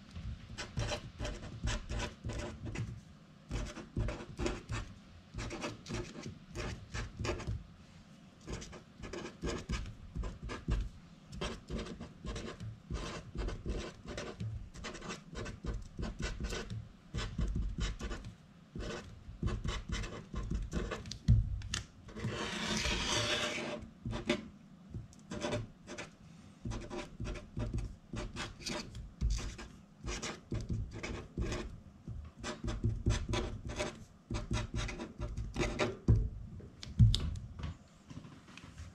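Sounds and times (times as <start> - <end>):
marker pen scratching on paper: 0.5 - 7.6, 8.4 - 21.2, 22.1 - 31.7, 32.4 - 36.1.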